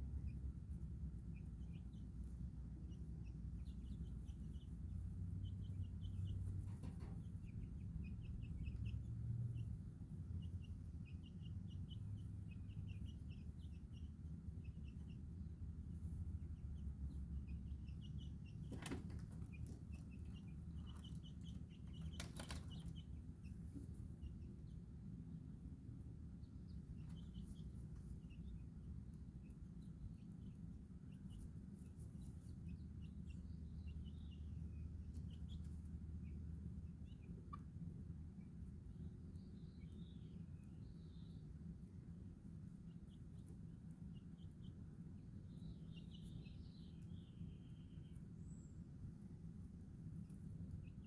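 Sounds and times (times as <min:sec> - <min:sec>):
baby chicks peeping: 0:00.0 - 0:51.0
low background rumble: 0:00.0 - 0:51.0.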